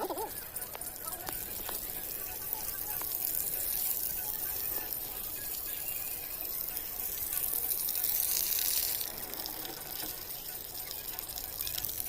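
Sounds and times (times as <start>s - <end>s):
water gushing: 0.0s - 12.0s.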